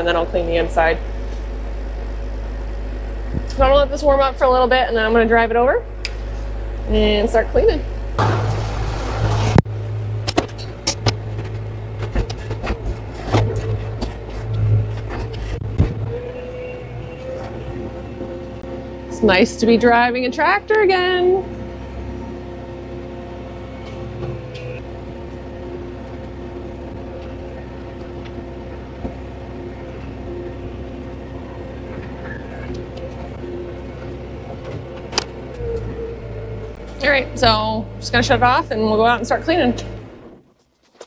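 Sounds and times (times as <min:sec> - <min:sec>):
tractor diesel engine idling: 0:00.0 - 0:40.4.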